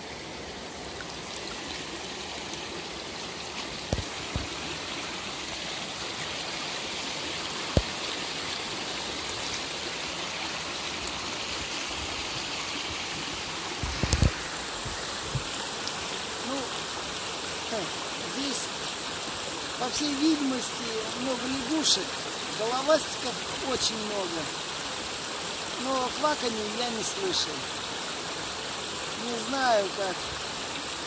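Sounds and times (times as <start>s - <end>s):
water rushing: 0.0s - 31.0s.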